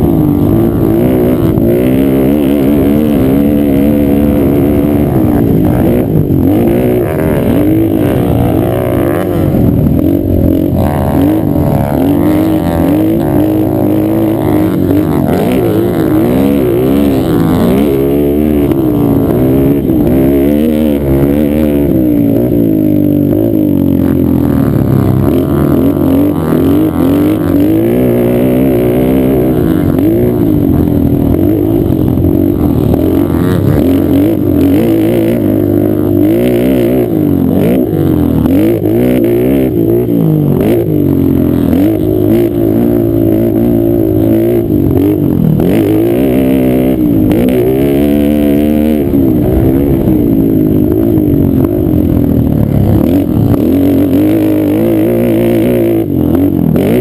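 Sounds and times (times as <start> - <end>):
quad engine running hard: 0.0 - 57.0.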